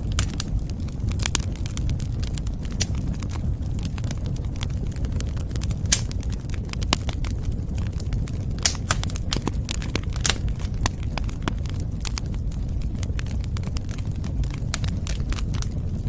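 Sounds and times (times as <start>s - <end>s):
fire popping: 0.0s - 16.0s
wood fire crackling: 0.0s - 16.0s.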